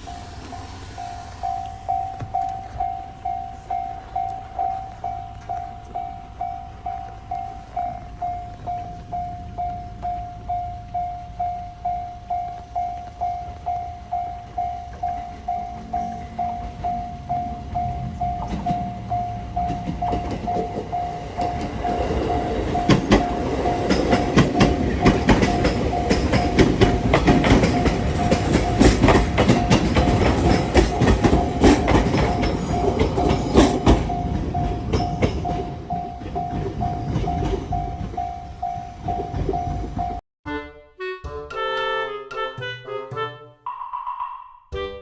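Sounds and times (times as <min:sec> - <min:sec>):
level crossing bell ringing: 0:00.0 - 0:40.2
train wheels clacking: 0:00.0 - 0:40.2.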